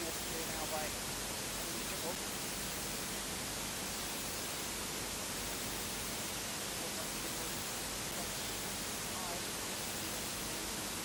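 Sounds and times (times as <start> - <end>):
hiss-like broadcast noise: 0.0 - 11.0.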